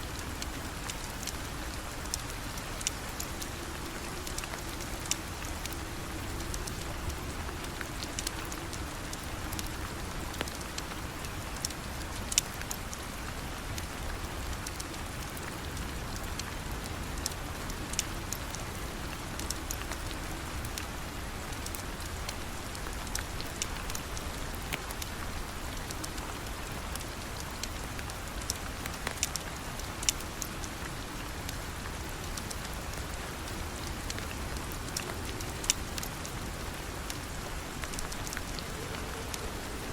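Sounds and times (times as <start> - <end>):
steady rain: 0.0 - 39.9
sharp ticks and pops: 0.4 - 13.0, 13.7 - 20.9, 25.8 - 31.6, 32.3 - 39.7.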